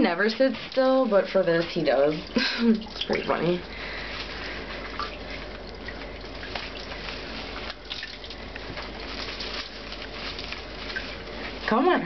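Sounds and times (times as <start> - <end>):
small splashes and drips: 0.0 - 12.0
water running into bathtub: 0.0 - 12.0.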